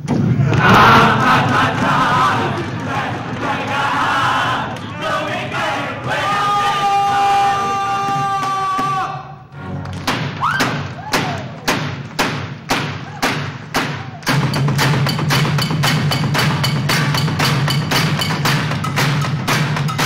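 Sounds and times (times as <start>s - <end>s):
performers striking metal sheets: 0.0s - 7.3s, 9.9s - 20.0s.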